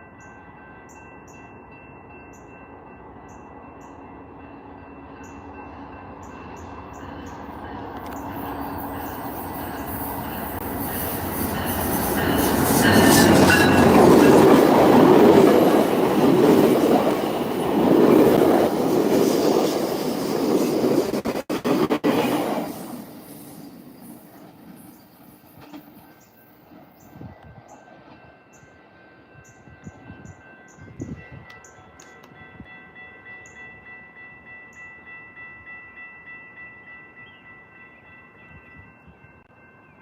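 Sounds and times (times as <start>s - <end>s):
train wheels rumbling on rails: 2.9s - 37.4s.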